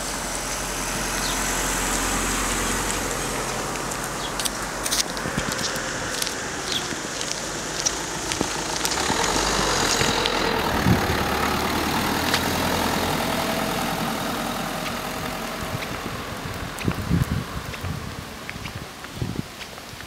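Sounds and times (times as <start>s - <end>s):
car driving past: 0.0s - 18.8s.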